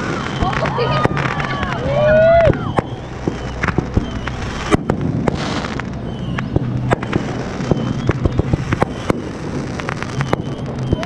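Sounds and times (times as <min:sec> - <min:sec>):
fireworks bangs and crackles: 0:00.0 - 0:11.0
hissing rush: 0:00.0 - 0:11.0.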